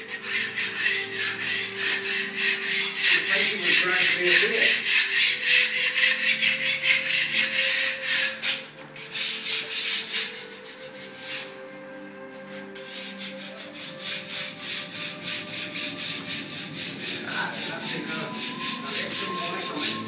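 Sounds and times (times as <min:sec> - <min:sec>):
paintbrush scrubbing on wall: 0:00.0 - 0:20.0.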